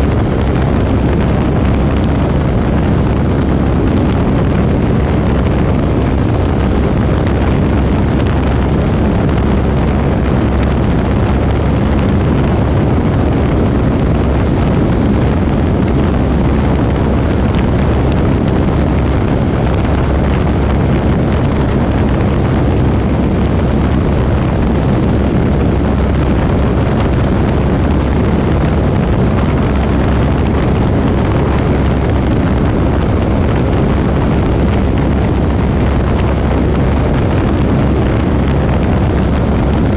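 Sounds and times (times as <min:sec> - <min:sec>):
propeller airplane engine droning: 0:00.0 - 0:39.9.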